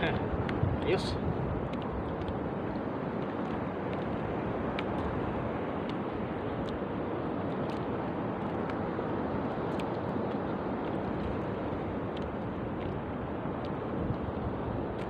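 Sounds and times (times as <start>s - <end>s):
sea water around a boat: 0.0s - 15.0s.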